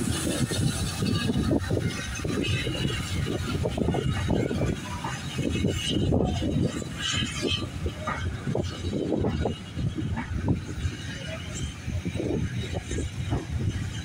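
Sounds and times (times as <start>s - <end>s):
train coaches rolling on rails: 0.0s - 14.0s
wind noise on microphone: 0.0s - 14.0s.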